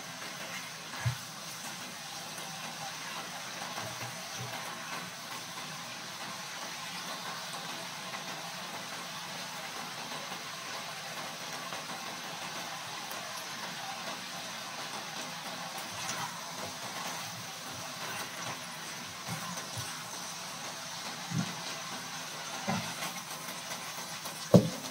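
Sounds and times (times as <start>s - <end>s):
glaze sizzling in a pan: 0.0s - 24.9s.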